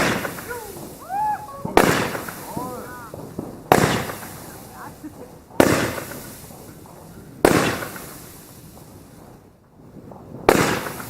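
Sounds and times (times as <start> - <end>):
fireworks bangs: 0.0 - 11.0
fireworks crackle and rumble: 0.0 - 11.0.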